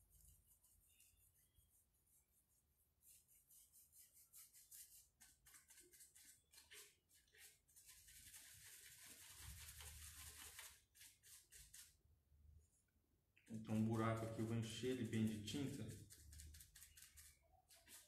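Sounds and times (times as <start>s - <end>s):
paintbrush scrubbing on wood: 0.0s - 12.0s, 13.7s - 18.0s.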